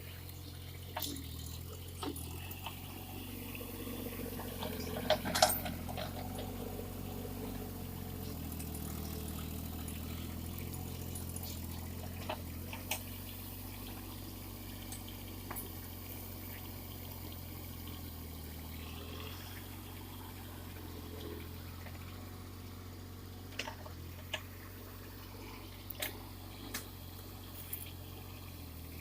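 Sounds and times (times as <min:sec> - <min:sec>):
excavator diesel engine humming: 0:00.0 - 0:29.0.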